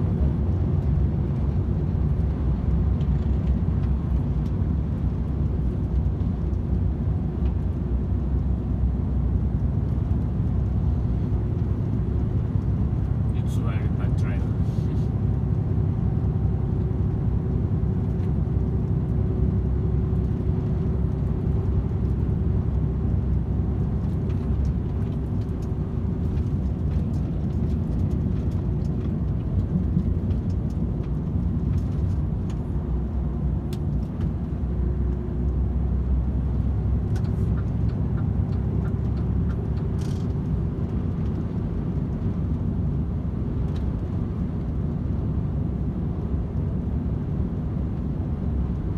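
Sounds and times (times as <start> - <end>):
faint drivetrain hum: 0.0 - 48.9
truck diesel and road rumble: 0.0 - 48.9.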